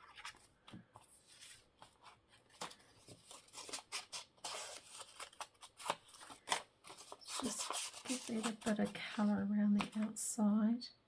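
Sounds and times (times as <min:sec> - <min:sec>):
paper rustling and scratching: 0:00.0 - 0:10.1.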